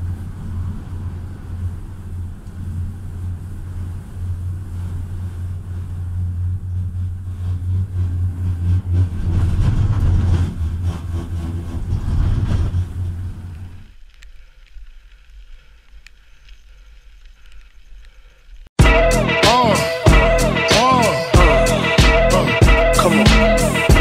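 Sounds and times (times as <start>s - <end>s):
gondola cabin hum and rumble: 0.0s - 14.2s, 18.6s - 24.0s.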